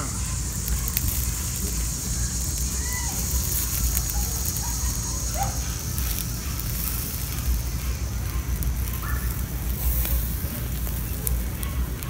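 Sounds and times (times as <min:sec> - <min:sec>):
campfire hissing and crackling: 0:00.0 - 0:12.0
low rumble: 0:00.0 - 0:12.0.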